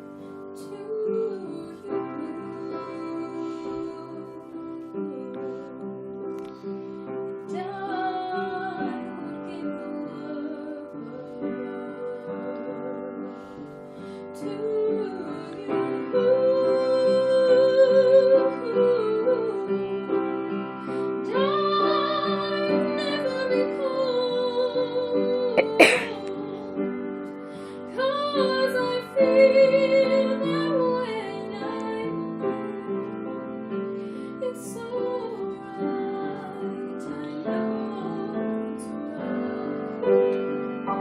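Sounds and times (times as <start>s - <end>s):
woman singing slow melody: 0.0s - 6.6s, 7.3s - 33.5s, 34.3s - 41.0s.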